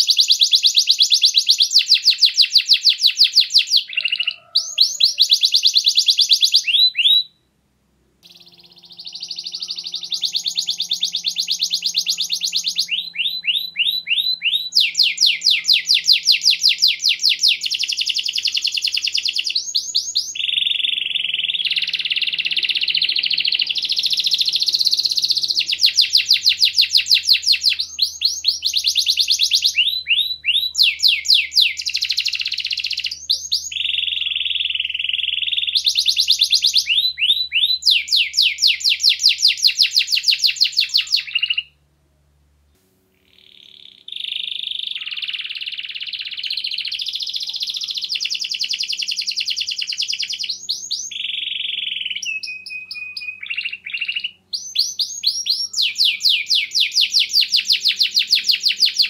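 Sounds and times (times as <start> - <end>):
canary singing trills: 0.0 - 7.5, 8.2 - 41.8, 43.1 - 59.0.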